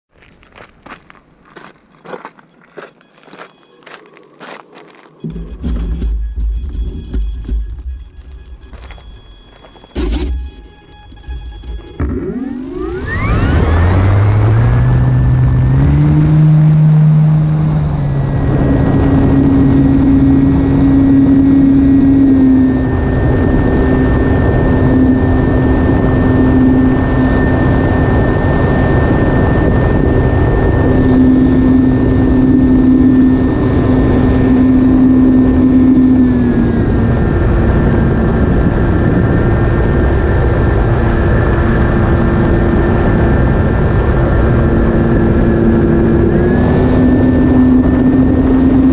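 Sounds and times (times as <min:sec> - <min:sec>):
steady rushing noise: 0:03.8 - 0:48.9
model plane motor whining: 0:08.2 - 0:48.9.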